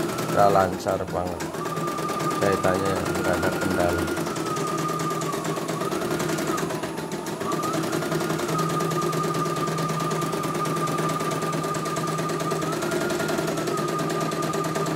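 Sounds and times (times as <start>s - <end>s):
embroidery machine stitching: 0.0s - 14.9s.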